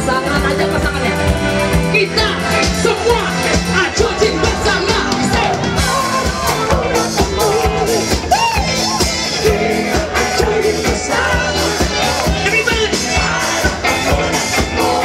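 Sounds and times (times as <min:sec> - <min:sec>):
rock band playing live: 0:00.0 - 0:15.0
man singing lead vocals: 0:01.9 - 0:15.0.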